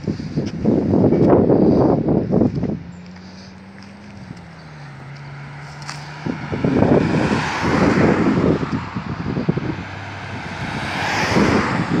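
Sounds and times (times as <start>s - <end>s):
street traffic noise: 0.0s - 12.0s
wind buffeting microphone: 0.0s - 12.0s.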